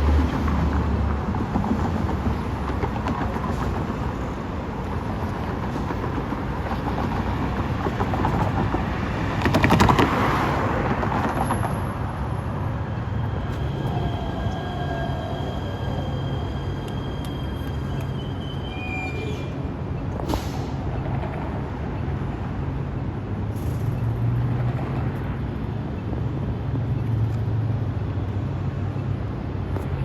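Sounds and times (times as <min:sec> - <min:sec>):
train running on rails: 0:00.0 - 0:30.0.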